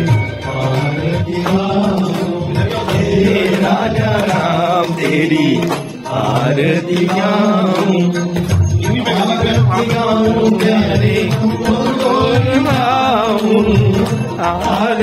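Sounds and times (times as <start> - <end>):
instrumental accompaniment: 0.0 - 15.0
voices singing devotional chant: 0.0 - 15.0.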